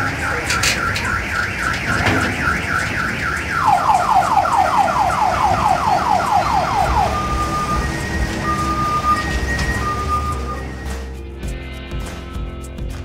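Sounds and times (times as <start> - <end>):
electronic warning siren chirping: 0.0 - 11.2.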